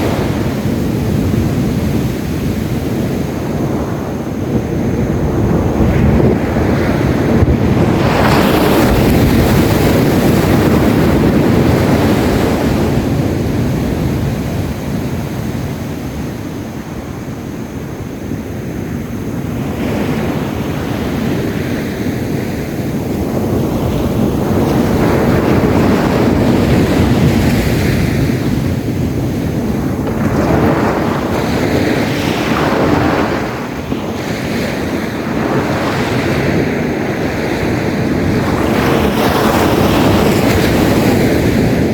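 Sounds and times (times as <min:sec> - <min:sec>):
sea waves breaking on beach: 0:00.0 - 0:41.9
wind buffeting microphone: 0:00.0 - 0:41.9.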